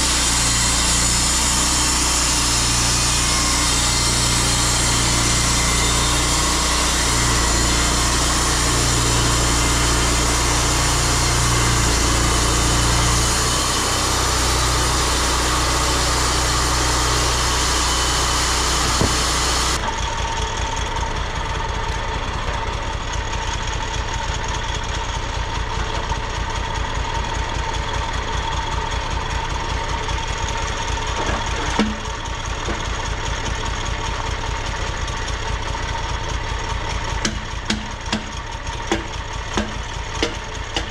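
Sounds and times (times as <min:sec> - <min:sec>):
sawmill cutting noise: 0:00.0 - 0:40.9
small gas engine running: 0:00.0 - 0:40.9.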